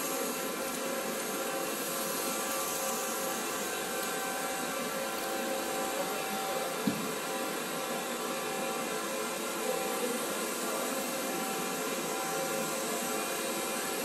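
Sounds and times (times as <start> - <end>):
shop machinery whirring hum: 0.0 - 14.0.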